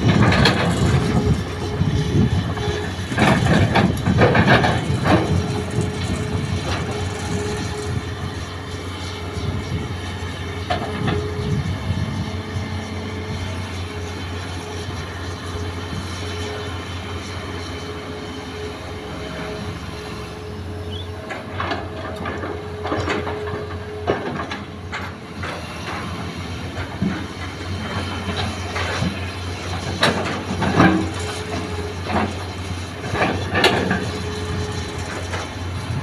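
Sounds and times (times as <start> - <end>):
excavator diesel engine: 0.0 - 36.0
hydraulic whine: 0.0 - 36.0.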